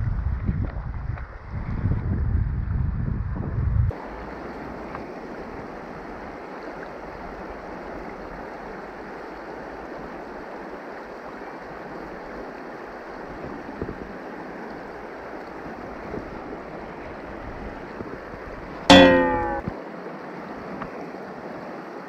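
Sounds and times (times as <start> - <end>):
creek water rushing: 4.0 - 22.0.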